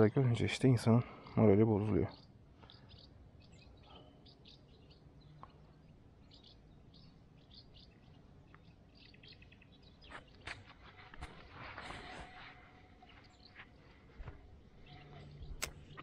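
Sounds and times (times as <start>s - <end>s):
faint songbirds chirping: 0.0s - 16.0s.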